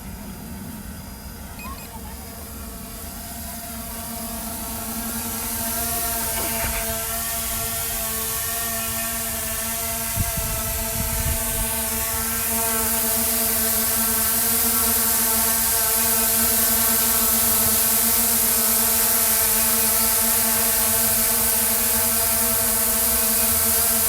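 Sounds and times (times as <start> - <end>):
high hiss: 0.0 - 24.0
small electric motors whining: 0.0 - 24.0.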